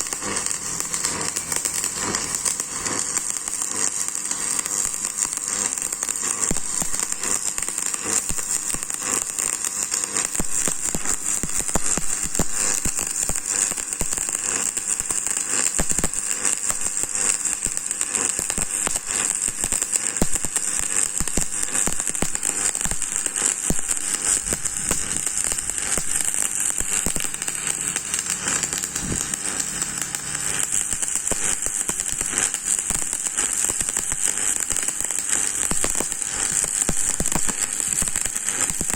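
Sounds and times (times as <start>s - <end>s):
arc welding crackle and hiss: 0.0s - 38.9s.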